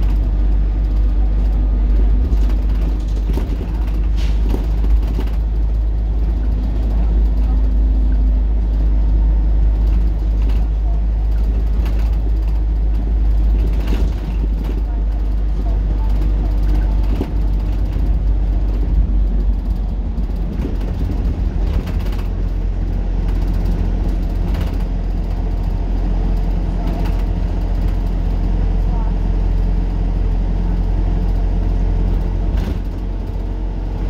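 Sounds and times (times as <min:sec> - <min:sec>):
bus engine droning: 0:00.0 - 0:34.0.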